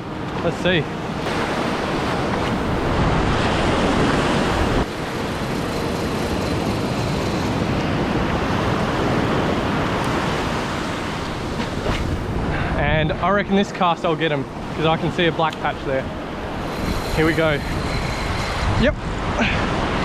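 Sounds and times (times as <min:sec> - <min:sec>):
surf washing onto beach: 0:00.6 - 0:17.5
wind on microphone: 0:01.2 - 0:13.4, 0:15.9 - 0:20.0.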